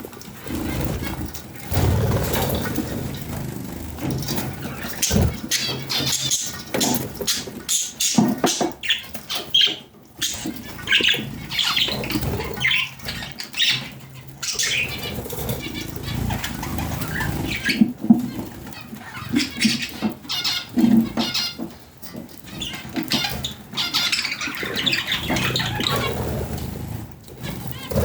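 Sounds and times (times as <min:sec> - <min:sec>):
budgies chirping and squawking: 0:00.0 - 0:28.0
wings flapping: 0:00.0 - 0:28.0.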